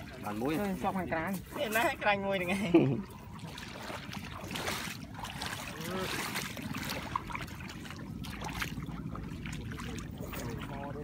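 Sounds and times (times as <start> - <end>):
flowing floodwater: 0.0 - 11.0
wind: 0.0 - 11.0.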